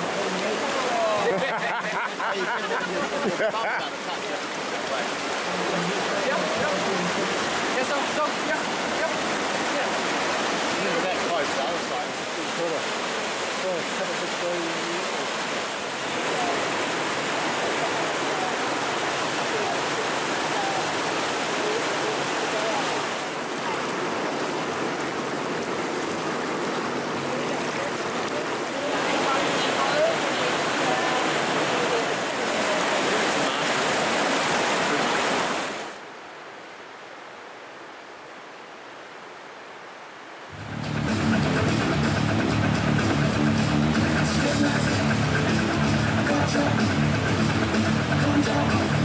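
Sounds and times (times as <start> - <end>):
river rapids rushing: 0.0 - 39.2, 40.3 - 49.0.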